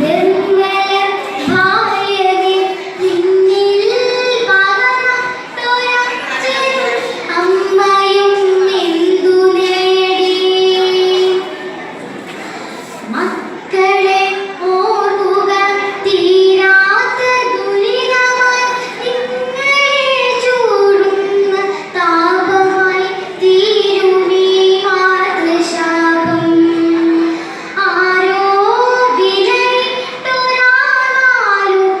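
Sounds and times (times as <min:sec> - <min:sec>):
child chanting melodically: 0:00.0 - 0:11.9, 0:12.7 - 0:32.0.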